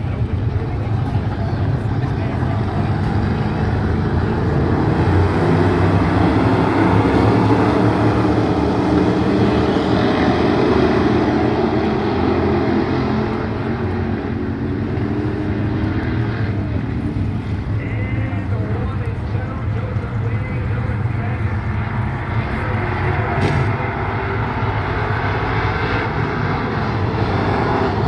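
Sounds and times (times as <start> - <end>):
race car engines running hard: 0.0 - 28.0.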